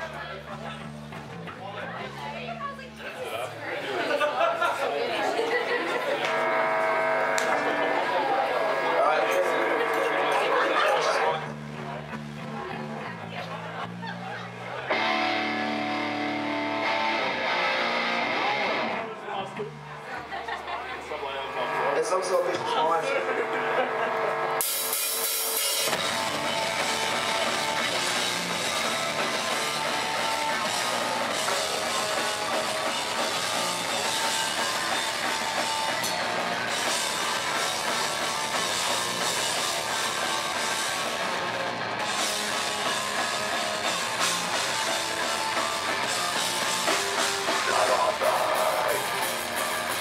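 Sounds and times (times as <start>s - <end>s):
live punk metal band playing: 0.0s - 50.0s.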